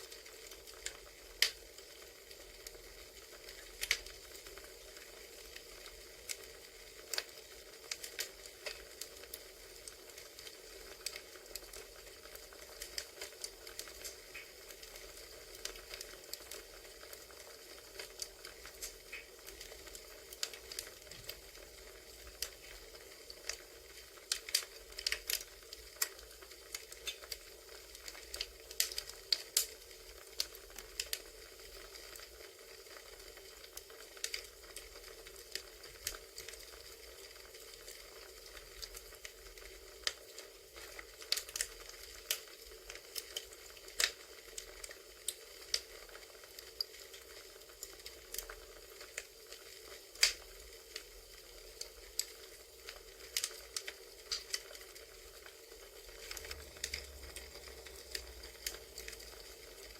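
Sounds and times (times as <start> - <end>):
campfire hissing: 0.0 - 59.9
fire pops and snaps: 0.0 - 59.9.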